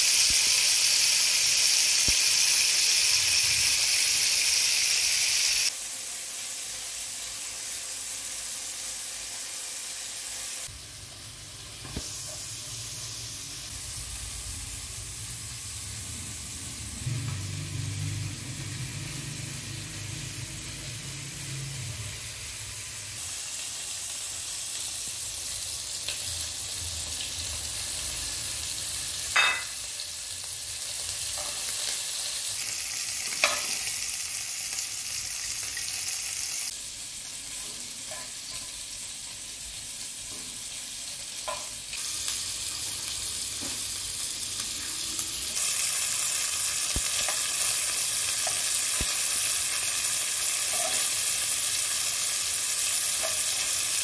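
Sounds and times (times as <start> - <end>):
meat sizzling in frying pan: 0.0 - 54.0.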